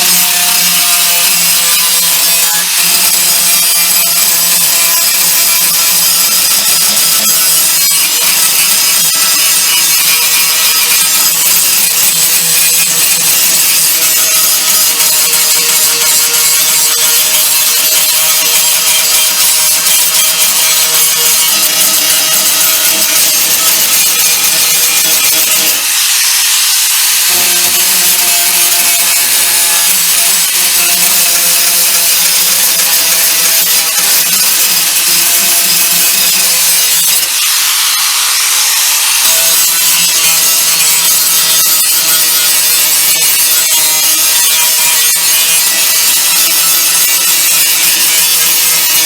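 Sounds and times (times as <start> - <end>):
angle grinder grinding metal: 0.0 - 49.0
grinder motor hum: 0.0 - 49.0.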